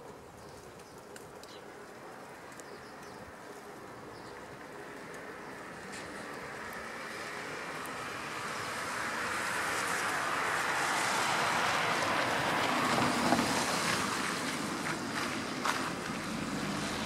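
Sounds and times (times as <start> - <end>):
vehicle passing with tyre noise: 1.9 - 17.0.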